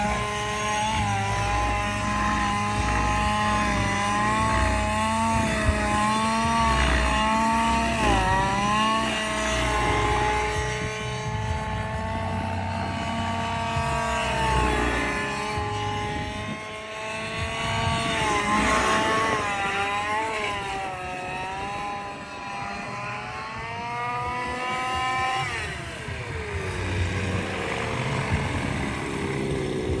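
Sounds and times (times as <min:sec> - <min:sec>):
model helicopter engine: 0:00.0 - 0:30.0.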